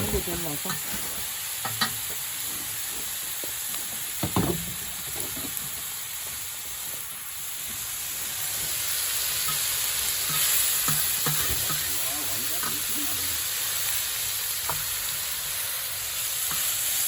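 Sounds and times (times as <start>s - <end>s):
meat sizzling on a griddle: 0.0s - 17.0s.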